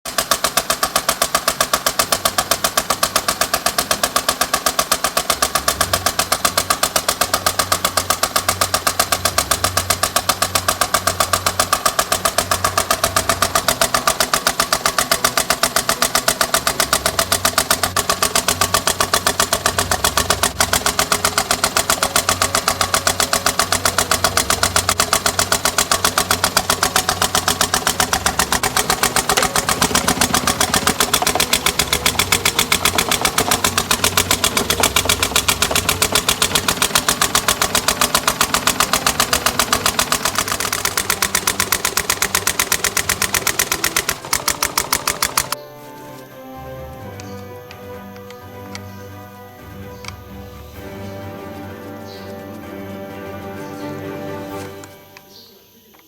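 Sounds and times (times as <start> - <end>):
car engine running: 0.0 - 45.6
fast even engine knocking: 0.0 - 45.6.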